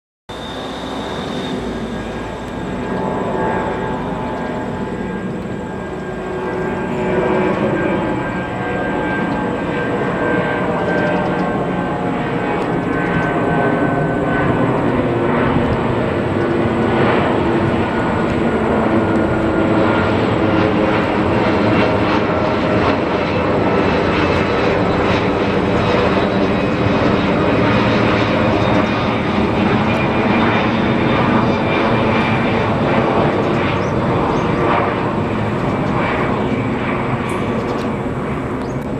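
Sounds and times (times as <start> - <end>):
jet airliner roar: 0.3 - 38.9.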